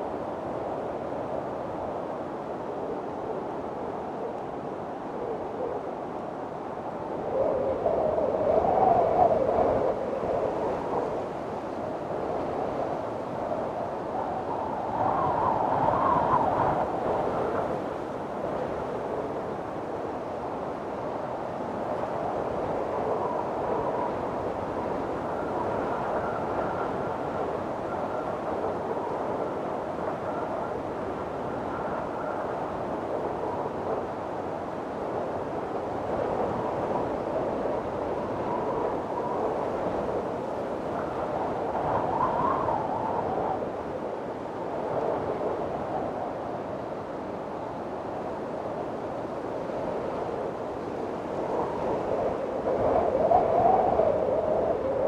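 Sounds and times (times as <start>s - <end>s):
wind blowing with whistling: 0.0s - 55.0s.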